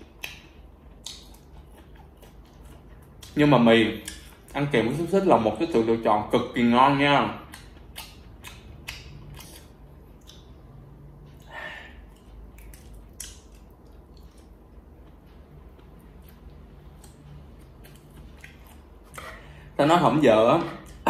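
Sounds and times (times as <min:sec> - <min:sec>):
person chewing food: 0:00.0 - 0:04.6, 0:07.4 - 0:19.8.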